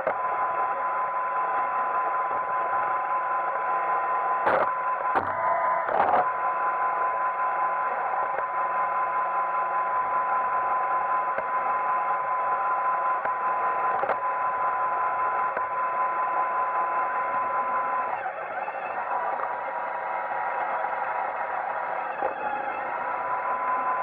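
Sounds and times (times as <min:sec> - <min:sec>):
robot vacuum droning and whining: 0:00.0 - 0:24.0.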